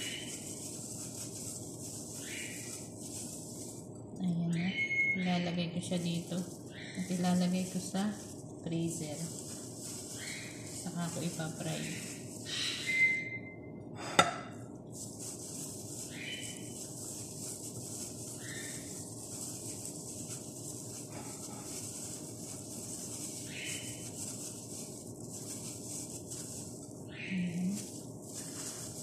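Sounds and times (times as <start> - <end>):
scratchy rustles of oats: 0.0 - 4.1, 5.9 - 12.6, 14.9 - 29.0.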